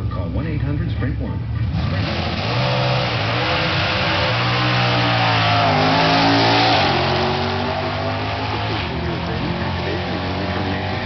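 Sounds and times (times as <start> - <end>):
car engine revving accelerating: 1.6 - 11.0.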